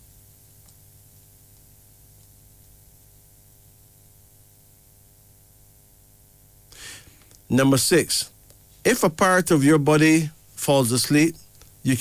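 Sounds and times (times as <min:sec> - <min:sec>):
faint hiss and electrical hum: 0:00.0 - 0:12.0.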